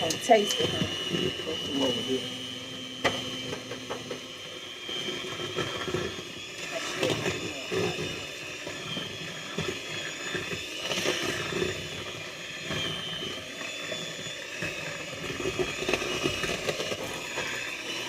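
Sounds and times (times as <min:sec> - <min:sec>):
electric mixer running: 0:00.0 - 0:18.0.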